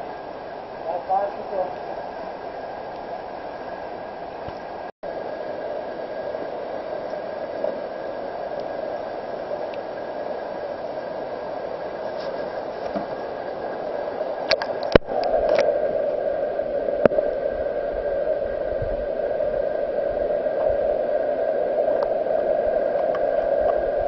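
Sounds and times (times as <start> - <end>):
muffled underwater water noise: 0.0 - 24.0.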